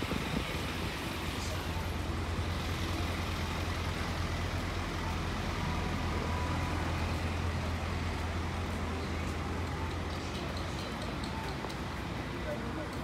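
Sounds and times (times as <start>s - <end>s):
engine rumble: 0.0s - 13.0s
road noise: 0.0s - 13.0s.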